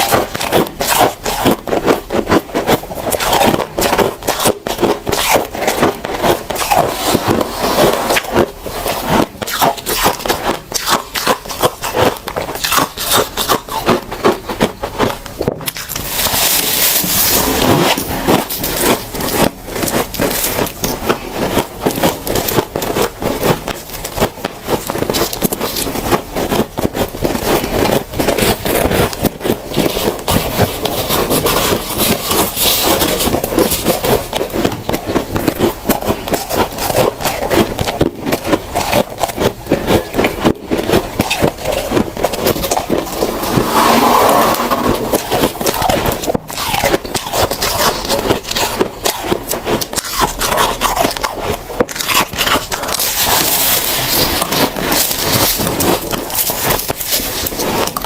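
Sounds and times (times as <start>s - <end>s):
chewing crunchy frost: 0.0s - 58.0s.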